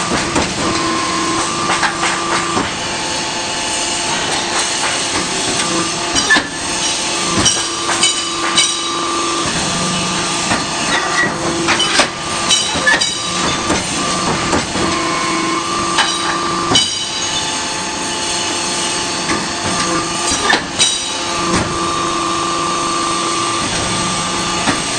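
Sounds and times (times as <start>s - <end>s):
hydraulic hum: 0.0s - 24.9s
hydraulic whine: 0.0s - 24.9s.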